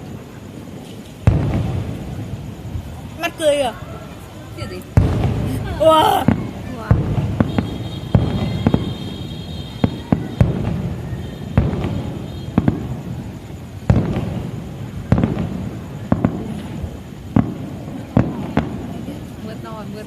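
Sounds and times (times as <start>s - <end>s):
firework shells bursting: 0.0s - 19.5s.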